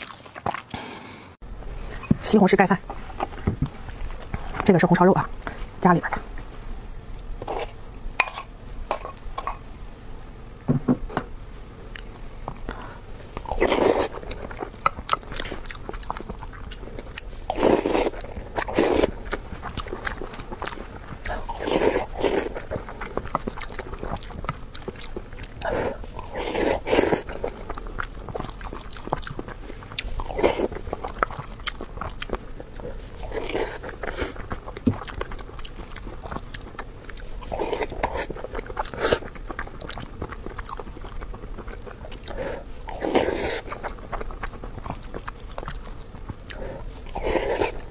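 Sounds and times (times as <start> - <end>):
chewing and mouth sounds: 0.0 - 1.1, 2.8 - 9.6, 11.8 - 47.9.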